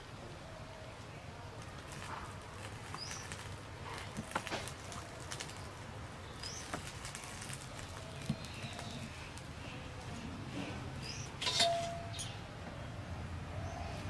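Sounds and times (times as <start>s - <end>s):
wood fire crackling: 0.9s - 12.6s.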